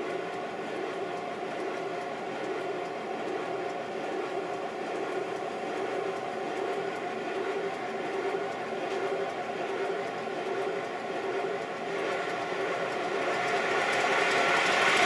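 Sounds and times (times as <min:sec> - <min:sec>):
model steam locomotive running: 0:00.0 - 0:15.0.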